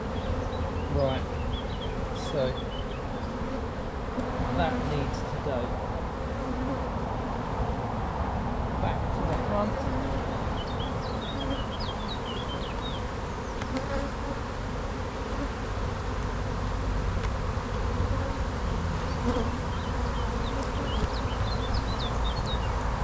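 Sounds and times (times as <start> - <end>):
bees buzzing: 0.0 - 7.3, 8.6 - 23.0.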